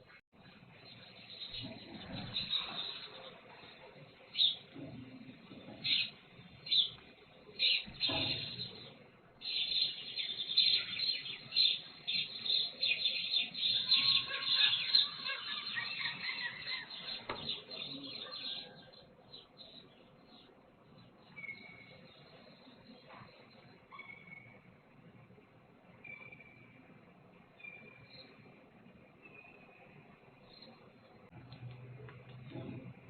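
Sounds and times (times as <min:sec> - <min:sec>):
sparrows chirping: 0:00.7 - 0:24.8, 0:25.9 - 0:31.3.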